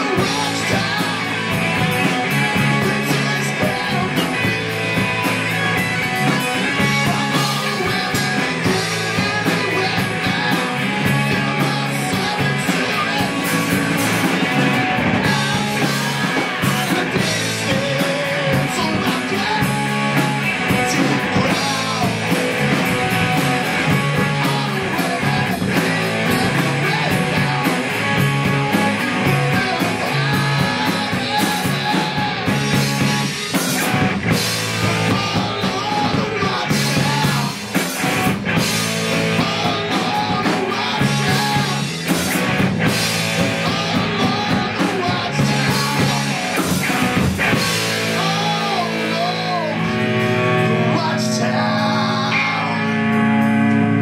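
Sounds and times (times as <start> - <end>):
man singing: 0.0 - 53.2
live rock band playing: 0.0 - 54.0.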